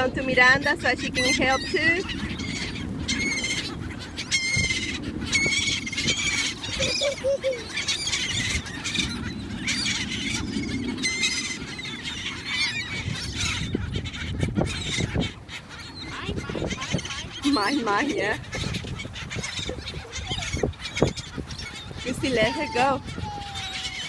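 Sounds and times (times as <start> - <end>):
flock of birds calling: 0.0 - 24.0.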